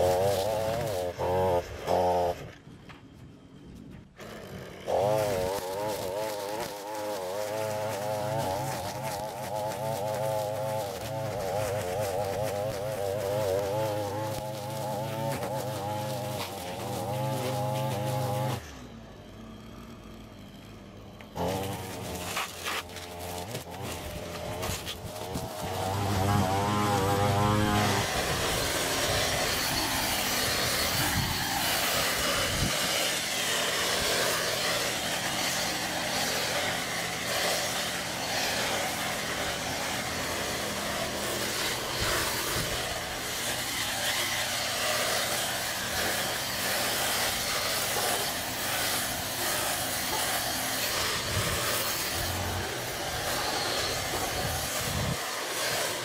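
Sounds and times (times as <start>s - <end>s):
small gas engine revving: 0.0s - 56.0s.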